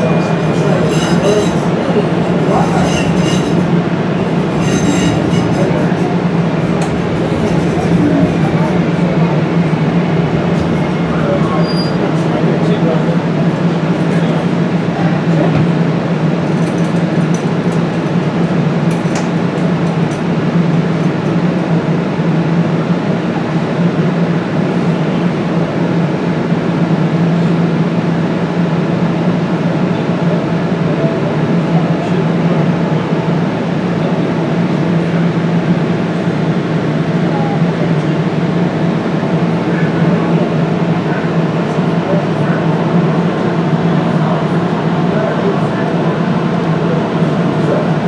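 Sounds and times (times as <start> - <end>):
rail car interior hum and rumble: 0.0 - 48.0.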